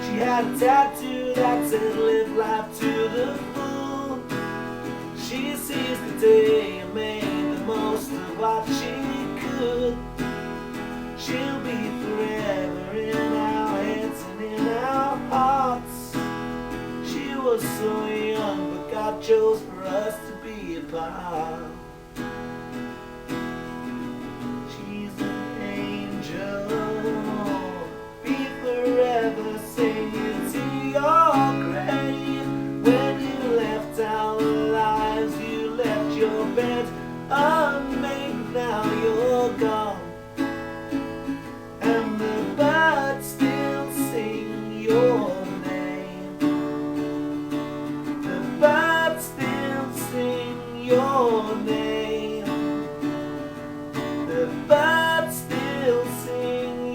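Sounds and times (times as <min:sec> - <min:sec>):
strummed acoustic guitar: 0:00.0 - 0:56.9.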